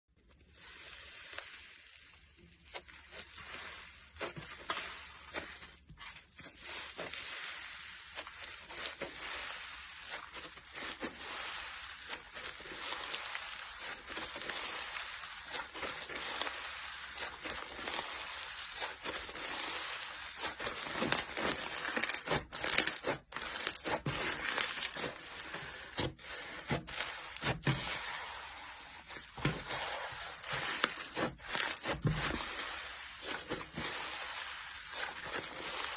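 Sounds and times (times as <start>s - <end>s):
slime squeezed crackling: 6.2s - 35.9s.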